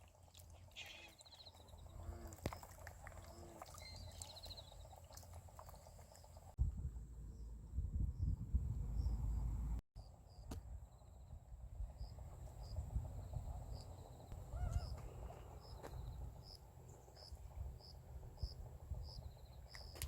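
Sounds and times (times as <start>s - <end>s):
faint low rumble: 1.5s - 20.0s.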